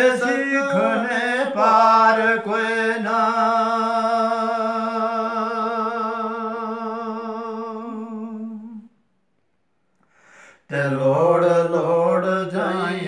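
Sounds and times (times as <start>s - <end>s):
man singing unaccompanied: 0.0s - 8.9s, 10.6s - 13.0s.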